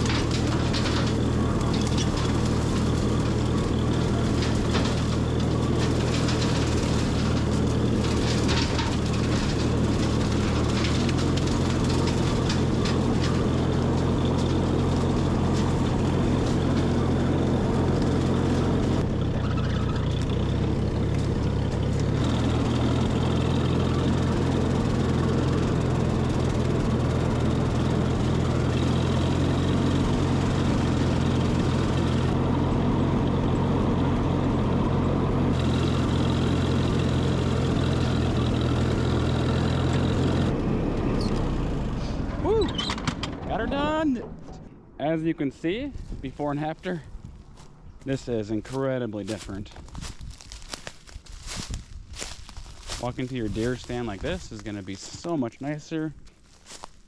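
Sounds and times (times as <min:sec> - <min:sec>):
mower cutting brush and leaves: 0:00.0 - 0:43.0, 0:46.0 - 0:57.0
tractor engine running: 0:00.0 - 0:57.0.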